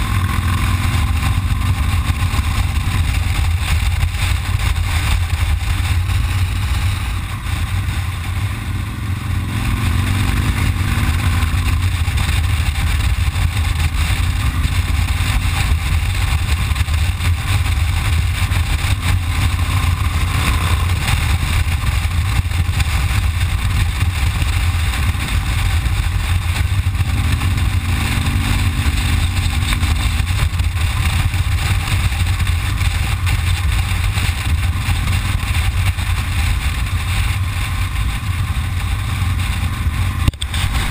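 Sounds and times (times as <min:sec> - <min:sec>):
motorcycle engine rumble: 0:00.0 - 0:40.9
wind on microphone: 0:00.0 - 0:40.9.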